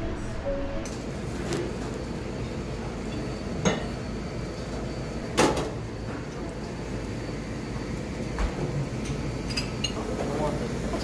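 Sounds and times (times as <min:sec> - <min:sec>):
steady dining-room hum: 0:00.0 - 0:11.0.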